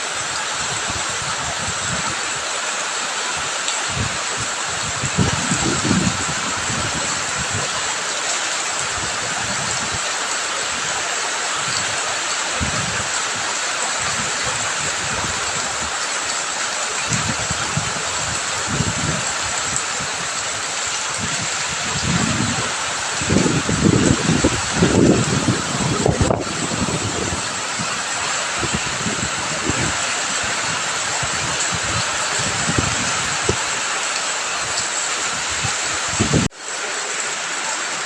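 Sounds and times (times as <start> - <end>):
rain: 0.0 - 38.0
running water rushing: 0.0 - 38.0.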